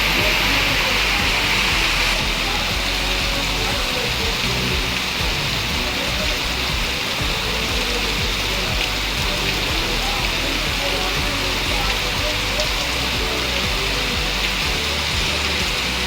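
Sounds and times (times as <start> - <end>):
background music: 0.0 - 16.0
heavy rain hissing: 0.0 - 16.0.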